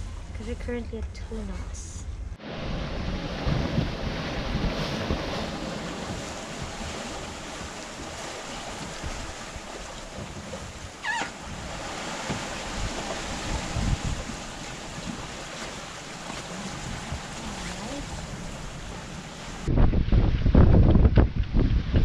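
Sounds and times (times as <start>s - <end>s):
wind buffeting microphone: 0.0s - 22.0s
sea wash: 2.4s - 20.7s.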